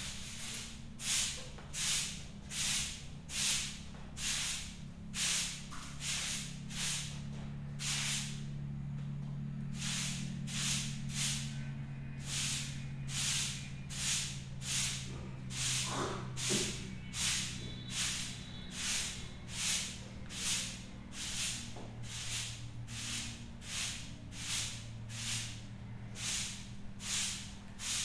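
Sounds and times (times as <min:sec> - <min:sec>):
broom sweeping concrete floor: 0:00.0 - 0:28.0
steady low hum: 0:00.0 - 0:28.0.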